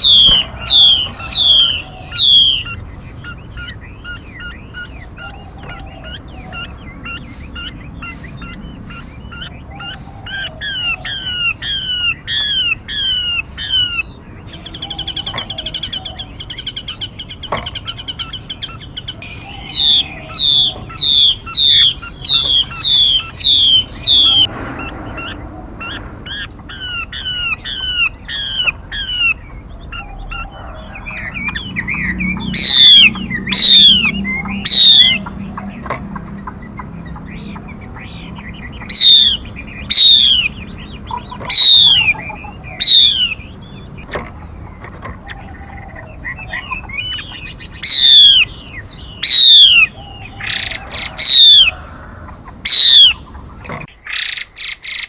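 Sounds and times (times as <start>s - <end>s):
buzzy bird trill: 0.0s - 44.6s, 45.4s - 52.0s
songbird sweeping notes: 0.0s - 44.6s, 45.4s - 51.9s
loud sharp bird calls: 0.0s - 55.0s.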